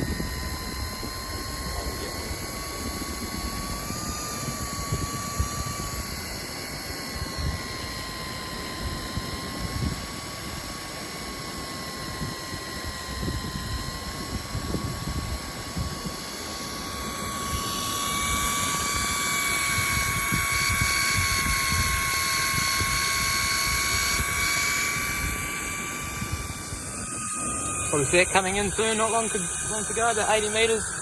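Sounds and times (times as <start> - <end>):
electric fishing reel motor whining: 0.0 - 31.0.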